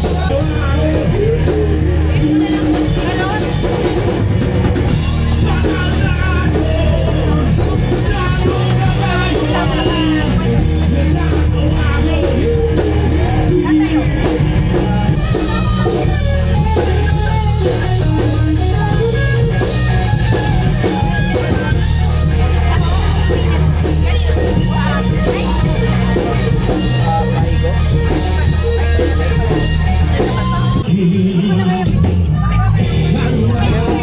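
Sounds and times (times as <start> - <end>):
deep bass: 0.0 - 34.0
loud music with singing: 0.0 - 34.0.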